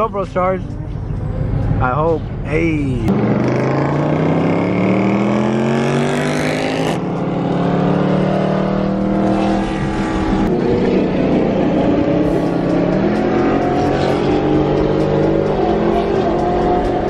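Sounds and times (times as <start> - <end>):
car engine accelerating: 0.6 - 17.0.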